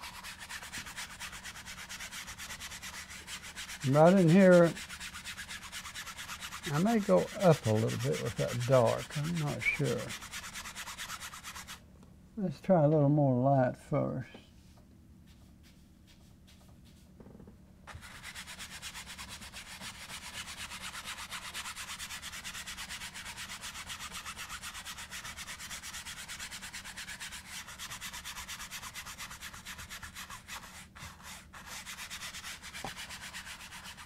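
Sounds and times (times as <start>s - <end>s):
paint brush scrubbing canvas: 0.0s - 11.8s, 14.6s - 17.2s, 17.9s - 34.0s.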